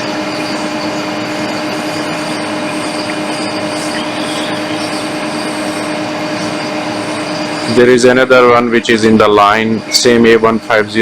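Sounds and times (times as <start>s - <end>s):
extractor fan whirring: 0.0s - 11.0s.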